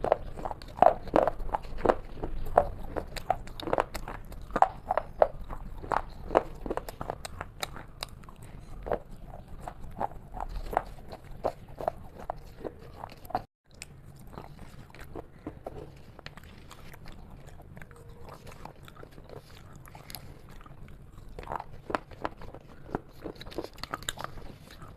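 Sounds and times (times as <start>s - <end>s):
person chewing crunchy dessert: 0.0s - 24.9s.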